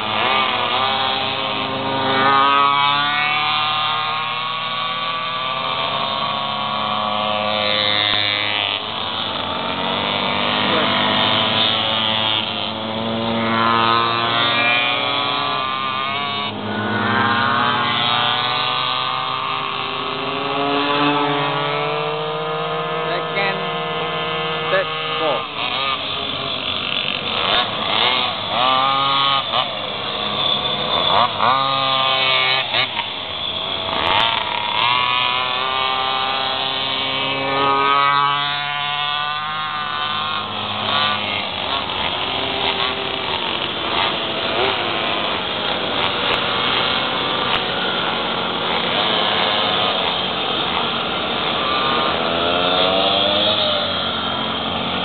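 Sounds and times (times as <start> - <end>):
small two-stroke engines buzzing: 0.0 - 55.0.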